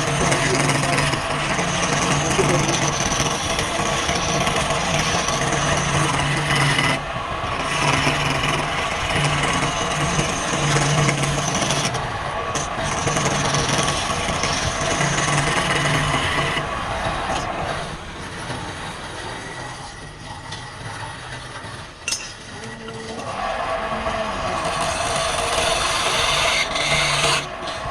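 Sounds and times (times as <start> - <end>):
lathe humming: 0.0 - 27.9
tool scraping spinning wood: 0.0 - 27.9.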